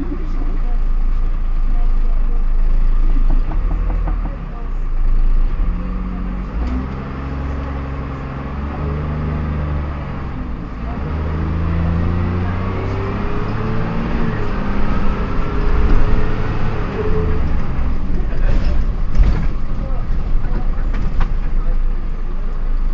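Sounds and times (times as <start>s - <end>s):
bus engine pulling: 0.0s - 22.9s.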